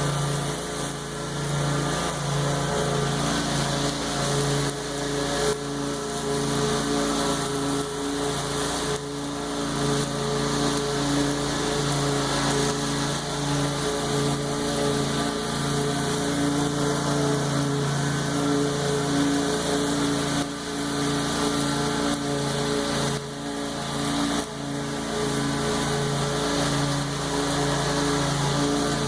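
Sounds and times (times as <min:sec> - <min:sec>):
lawn mower engine running: 0:00.0 - 0:29.0.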